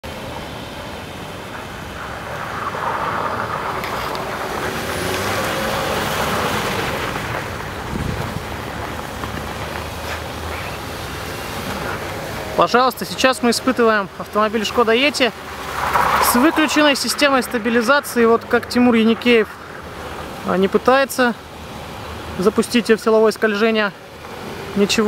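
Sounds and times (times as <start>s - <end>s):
car engine under throttle: 0.0s - 22.8s
tyre noise on snow: 0.8s - 21.0s.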